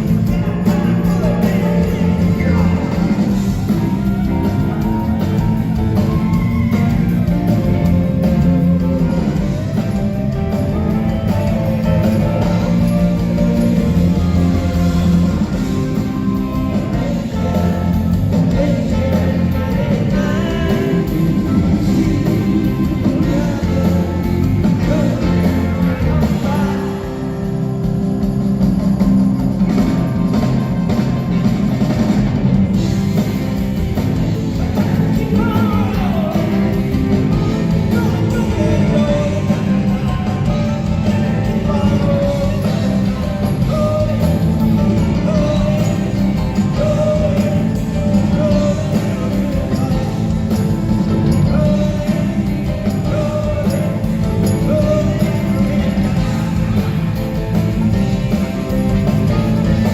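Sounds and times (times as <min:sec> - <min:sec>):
person singing: 0:00.0 - 0:27.6, 0:34.5 - 0:59.9
live rock band playing: 0:00.0 - 0:59.9.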